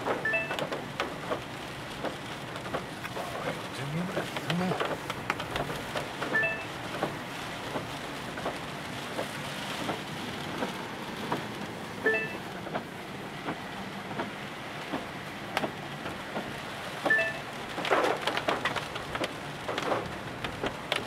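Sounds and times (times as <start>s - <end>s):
rain on glass: 0.0s - 21.0s
road and engine hum: 0.0s - 21.0s.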